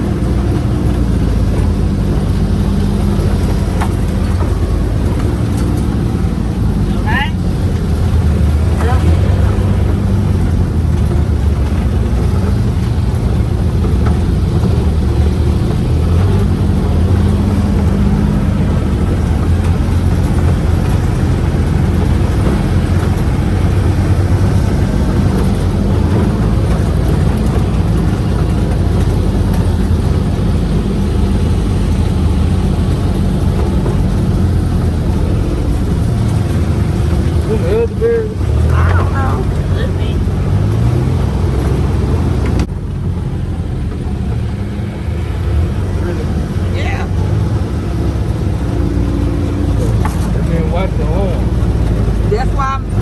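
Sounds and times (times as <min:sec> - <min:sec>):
vehicle engine drone: 0:00.0 - 0:53.0.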